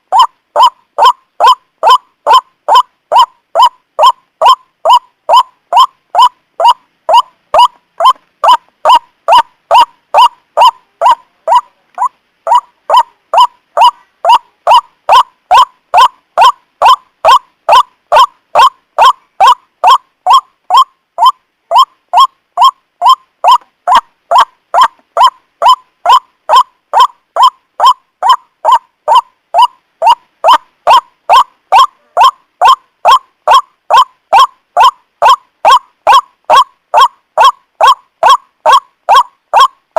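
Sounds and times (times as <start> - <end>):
waterhen honking calls: 0.0 - 39.7.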